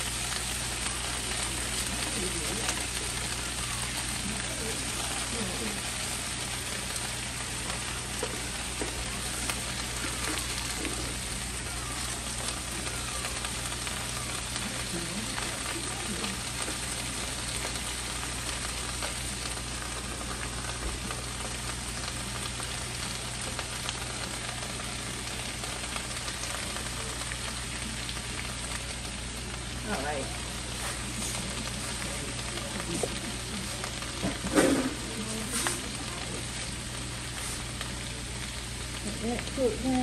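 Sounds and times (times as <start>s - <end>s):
cabbage sizzling in skillet: 0.0s - 40.0s.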